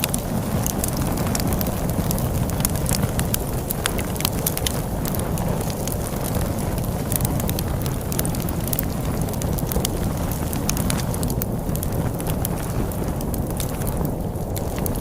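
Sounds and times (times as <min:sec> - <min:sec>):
log fire crackling and popping: 0:00.0 - 0:15.0
storm wind rumble: 0:00.0 - 0:15.0.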